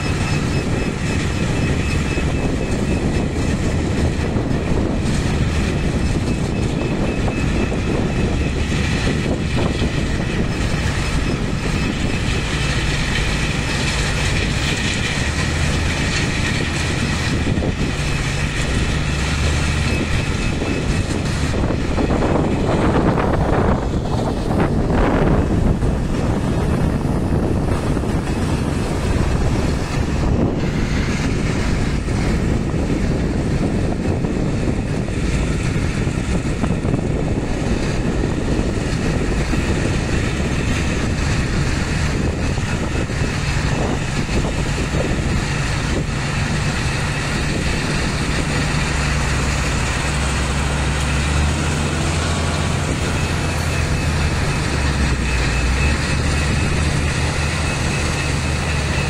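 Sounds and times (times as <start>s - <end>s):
heavy diesel engines rumbling: 0.0s - 59.0s
low engine drone: 0.0s - 59.0s.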